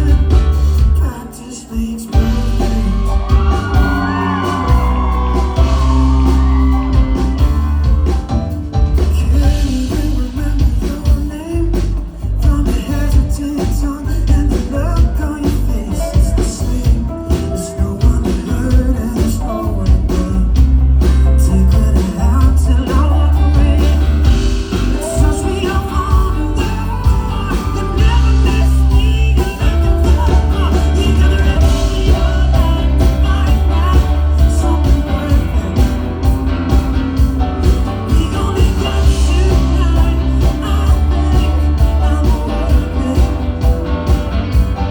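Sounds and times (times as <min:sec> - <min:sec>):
heavy bass line: 0:00.0 - 0:01.2, 0:02.1 - 0:44.9
drums: 0:00.0 - 0:44.9
live rock band playing: 0:00.0 - 0:44.9
person singing: 0:00.0 - 0:44.9.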